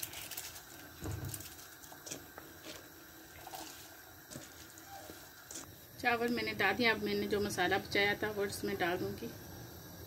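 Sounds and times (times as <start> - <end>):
broth bubbling in pot: 0.0 - 10.0.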